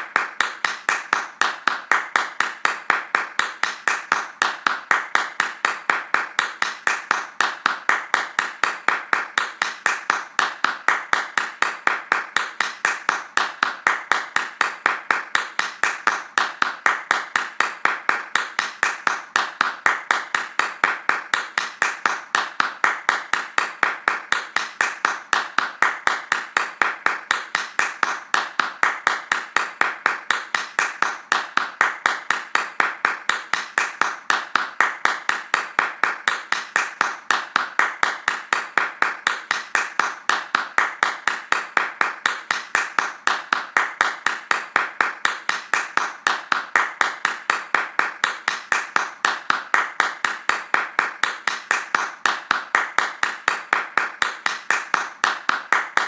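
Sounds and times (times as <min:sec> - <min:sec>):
hands clapping fast: 0:00.0 - 0:56.0.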